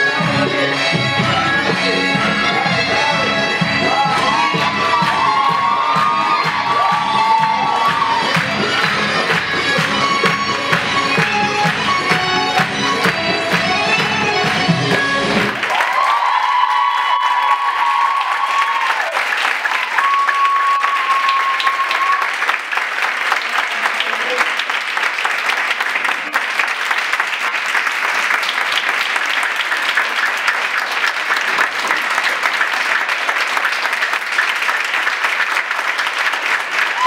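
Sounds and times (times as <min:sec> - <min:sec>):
audience applauding: 0:01.3 - 0:37.0.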